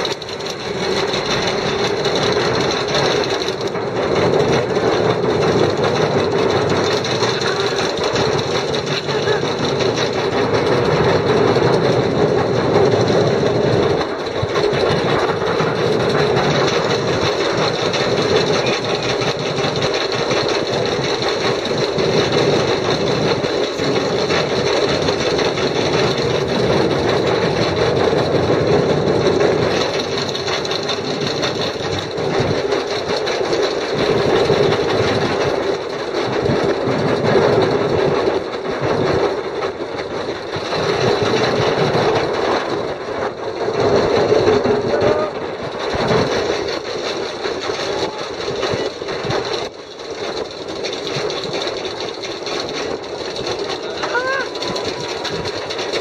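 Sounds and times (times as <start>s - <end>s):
lift chain rattling: 0.0s - 56.0s.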